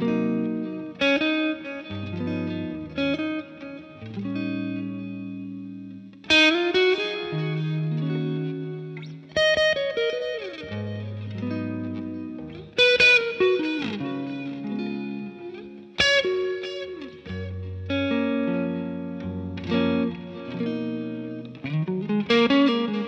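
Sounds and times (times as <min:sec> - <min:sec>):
overdriven electric guitar lead: 0:00.0 - 0:23.0.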